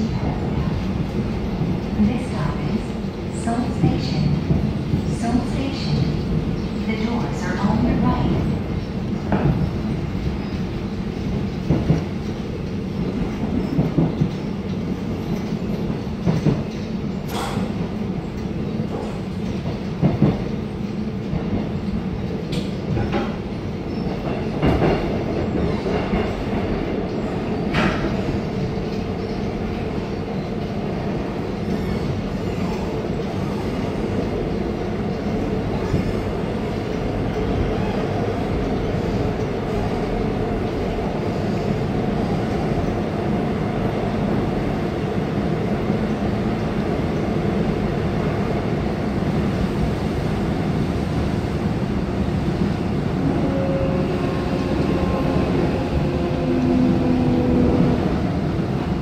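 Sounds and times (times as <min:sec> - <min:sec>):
subway car wheels rumbling: 0:00.0 - 0:59.0.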